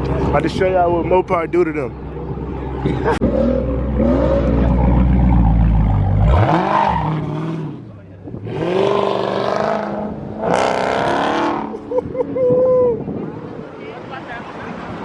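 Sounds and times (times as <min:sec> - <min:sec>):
engine howling: 0:00.0 - 0:13.5
car engines rumbling and revving: 0:00.0 - 0:15.0.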